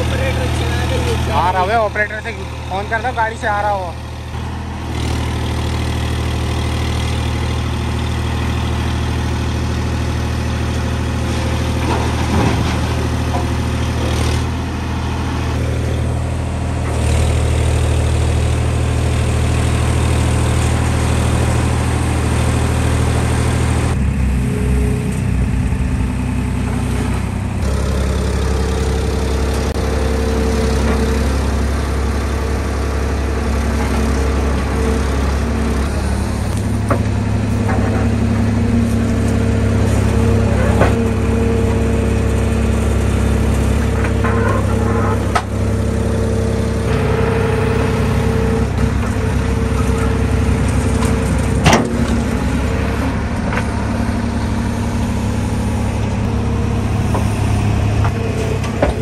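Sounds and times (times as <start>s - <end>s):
tractor diesel engine running: 0.0s - 59.0s
backhoe digging soil: 4.4s - 59.0s.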